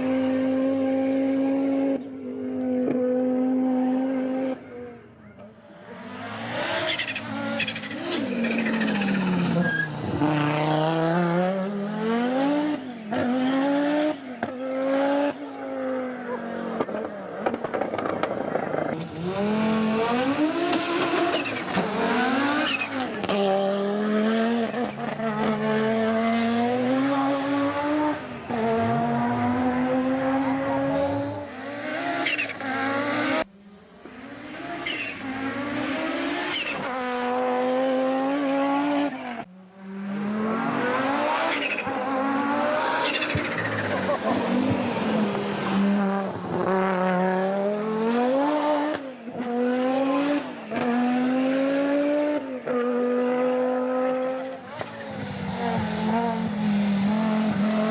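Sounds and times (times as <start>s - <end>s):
rally car engine revving hard: 5.9s - 57.9s.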